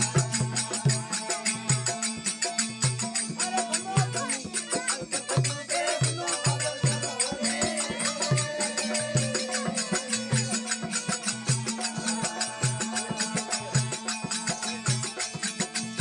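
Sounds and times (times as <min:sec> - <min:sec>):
rattling hand percussion: 0:00.0 - 0:16.0.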